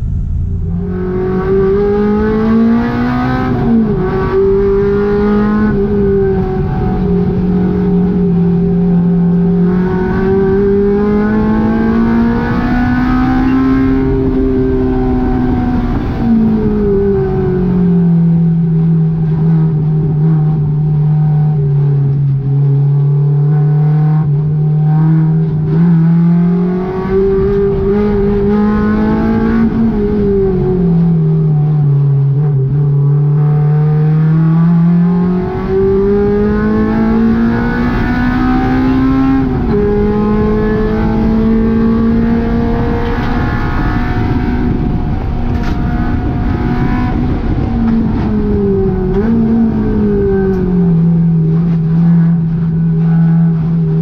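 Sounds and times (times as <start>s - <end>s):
car engine accelerating: 0.0s - 54.0s
road and tyre noise: 0.0s - 54.0s.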